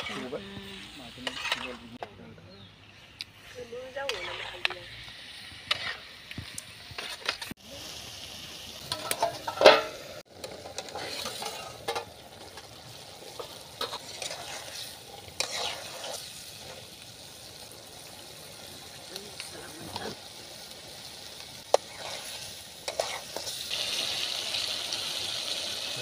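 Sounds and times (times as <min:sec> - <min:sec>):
chicken sizzling in pan: 0:03.8 - 0:26.0.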